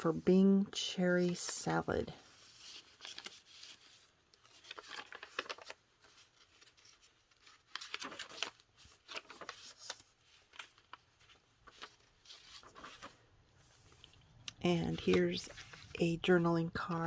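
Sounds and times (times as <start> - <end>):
paper pages rustling: 1.0 - 17.0.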